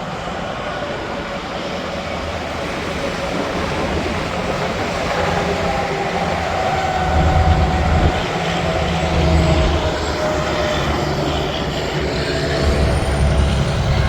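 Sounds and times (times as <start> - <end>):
heavy highway traffic: 0.0 - 14.0
trucks passing: 2.2 - 14.0.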